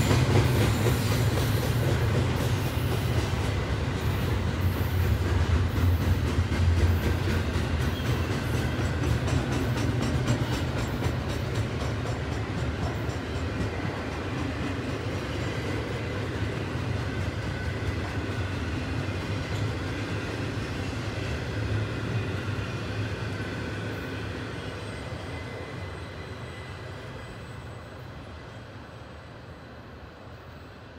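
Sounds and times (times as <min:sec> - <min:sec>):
train wheels rumbling and clicking: 0:00.0 - 0:25.9.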